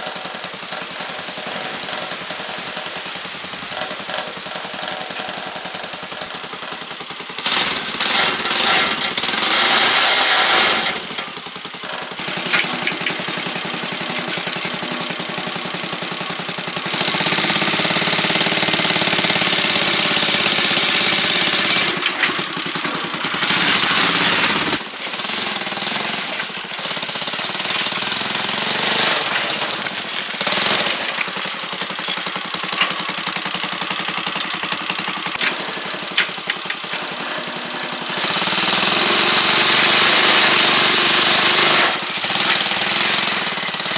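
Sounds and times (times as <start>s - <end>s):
machine rattling loudly: 0.0s - 43.9s.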